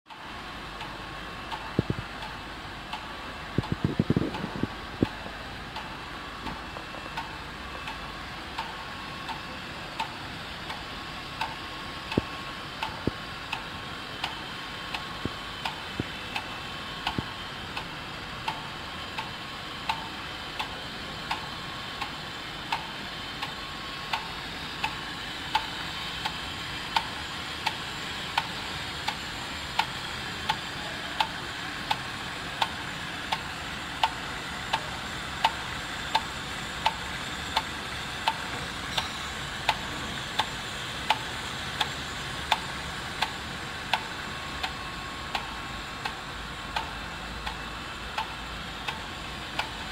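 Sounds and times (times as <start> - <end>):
laminating machine humming: 0.1 - 49.9.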